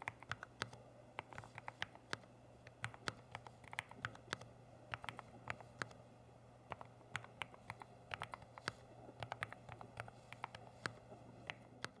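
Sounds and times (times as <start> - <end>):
keyboard typing: 0.0 - 6.0, 6.7 - 12.0.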